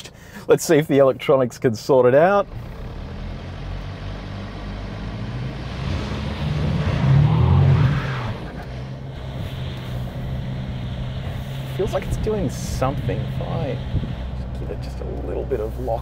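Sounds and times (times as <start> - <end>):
suv engine pulling under throttle: 2.4 - 16.0.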